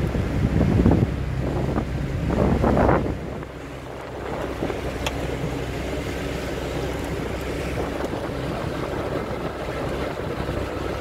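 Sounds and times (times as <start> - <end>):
motorboat engine running: 0.0 - 11.0
water noise: 0.0 - 11.0
wind noise: 0.0 - 11.0.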